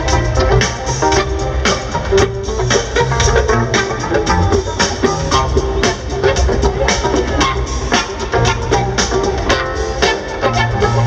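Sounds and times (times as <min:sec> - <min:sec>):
drums keeping a beat: 0:00.0 - 0:11.0
live rock band playing: 0:00.0 - 0:11.0.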